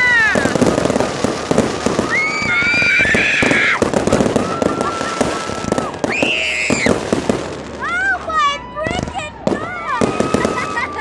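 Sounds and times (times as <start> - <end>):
fireworks crackling and popping: 0.0 - 11.0
high whistling firework: 0.0 - 11.0.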